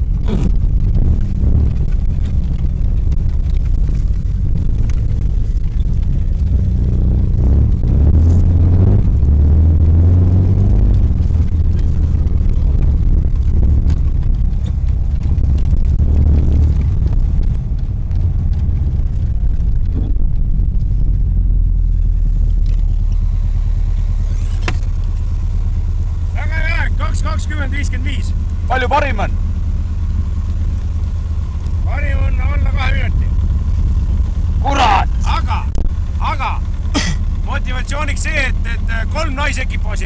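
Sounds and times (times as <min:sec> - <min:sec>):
car engine drone from inside: 0:00.0 - 0:40.0.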